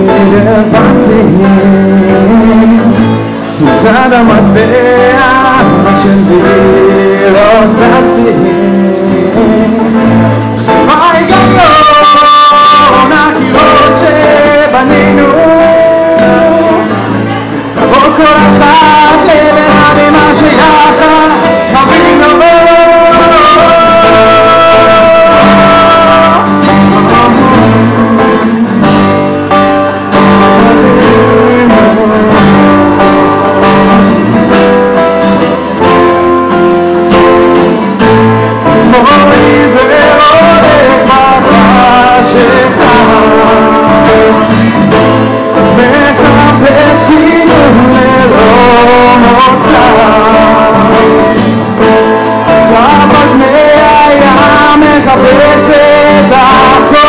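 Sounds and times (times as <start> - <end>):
man singing: 0.0 - 57.0
strummed acoustic guitars: 0.0 - 57.0.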